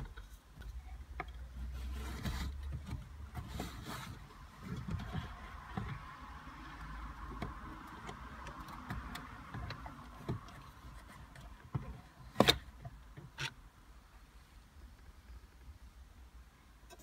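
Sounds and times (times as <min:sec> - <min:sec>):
clicks and scrapes of metal and plastic: 0:00.0 - 0:13.6.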